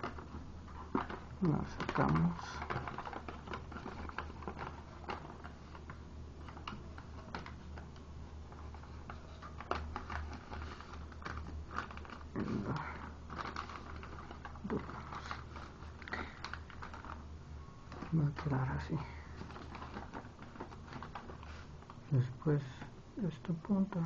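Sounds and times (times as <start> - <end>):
foil paper crinkling: 0.0 - 7.9, 8.5 - 22.9
steady low hum: 0.0 - 24.0.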